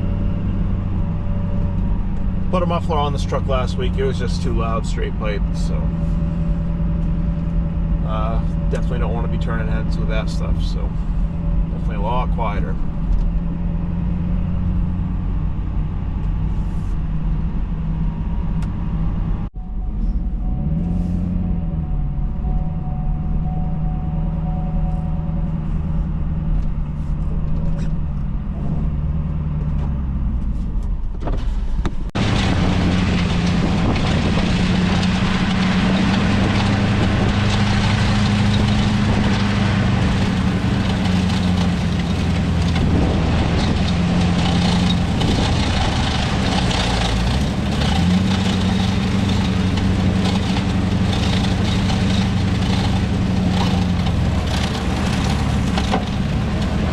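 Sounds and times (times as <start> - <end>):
pickup engine running: 0.0 - 56.9.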